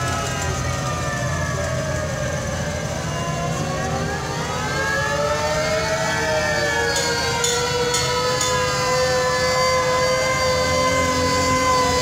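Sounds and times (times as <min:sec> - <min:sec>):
fire truck sirens wailing: 0:00.0 - 0:12.0
low engine rumble: 0:00.0 - 0:12.0.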